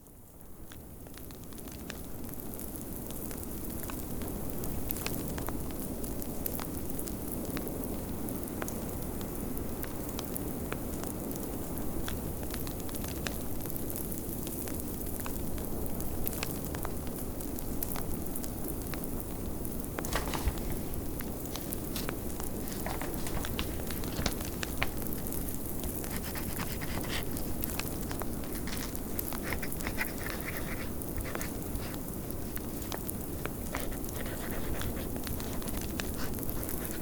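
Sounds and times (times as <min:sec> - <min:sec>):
wood fire crackling and popping: 0:00.7 - 0:37.0.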